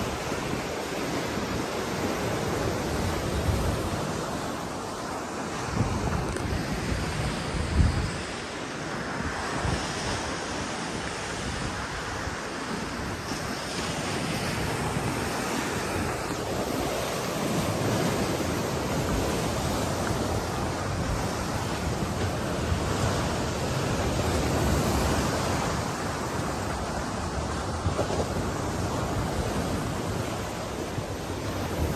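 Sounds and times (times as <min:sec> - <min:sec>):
surf breaking on shore: 0:00.0 - 0:31.9
wind buffeting microphone: 0:00.0 - 0:31.9.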